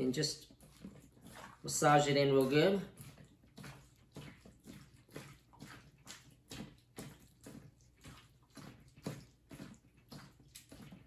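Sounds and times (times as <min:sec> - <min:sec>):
wet squelching of meat: 0:00.0 - 0:11.0.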